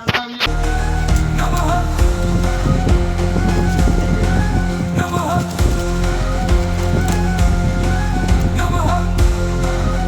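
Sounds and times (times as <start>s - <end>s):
background music with steady beat: 0.2s - 10.0s
sliding pitched synth line: 0.5s - 10.0s
low drum thumps: 0.6s - 10.0s.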